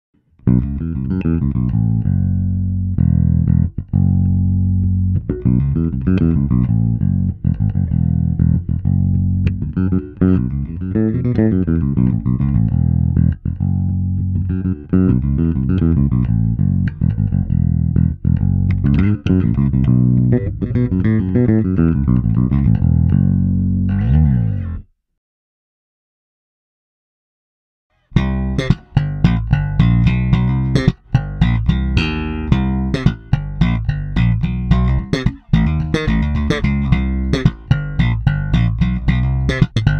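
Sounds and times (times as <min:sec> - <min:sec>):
electric bass plucked notes: 0:00.3 - 0:24.9, 0:28.0 - 0:39.9.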